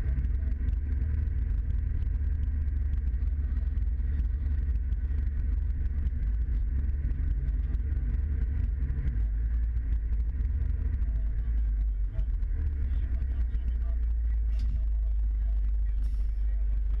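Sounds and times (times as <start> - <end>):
truck diesel engine rumbling: 0.0 - 17.0.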